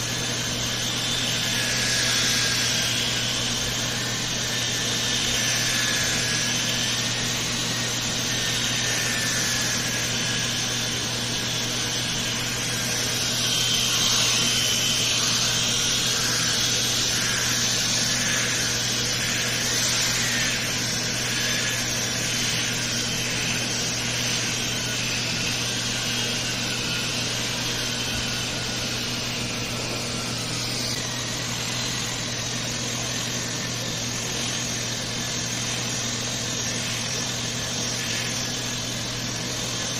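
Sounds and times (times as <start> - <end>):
power tool whining: 0.0 - 39.9.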